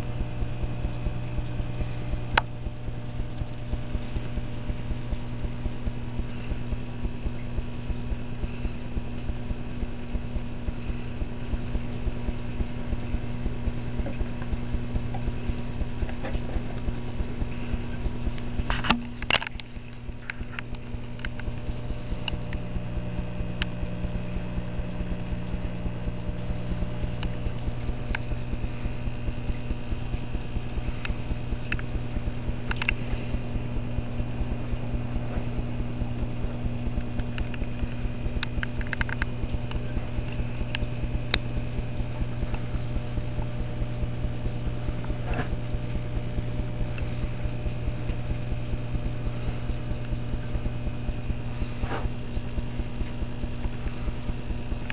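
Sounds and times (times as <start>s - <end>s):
aquarium filter humming: 0.0s - 54.9s
fast rattling pulse: 0.0s - 54.9s.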